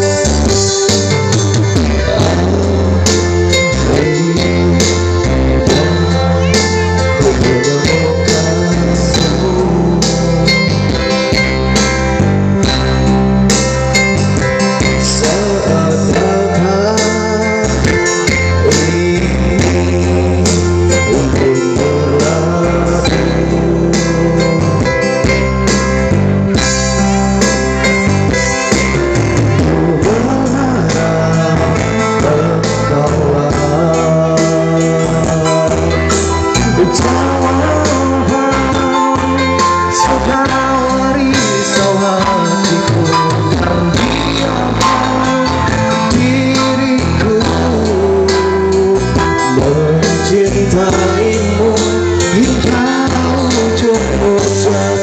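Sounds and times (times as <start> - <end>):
electronic keyboard pop music: 0.0 - 55.0.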